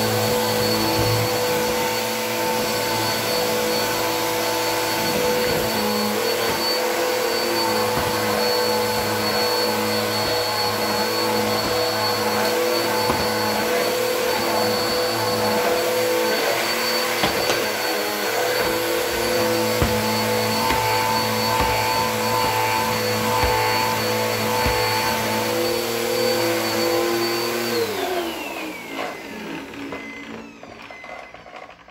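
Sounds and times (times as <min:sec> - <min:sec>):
vacuum motor winding down: 0:00.0 - 0:31.4
vacuum cleaner running: 0:00.0 - 0:31.9.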